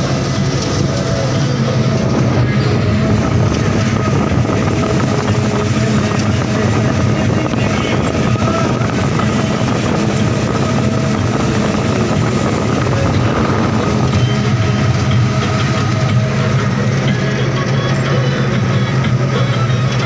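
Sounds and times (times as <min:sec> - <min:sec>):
combine harvester engine drone: 0:00.0 - 0:20.0.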